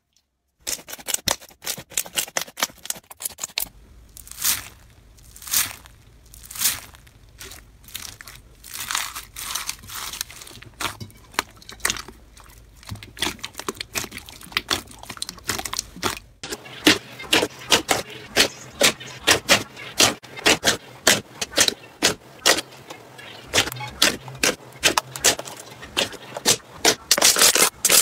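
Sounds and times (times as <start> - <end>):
slime squelching and crunching: 0.6 - 28.0.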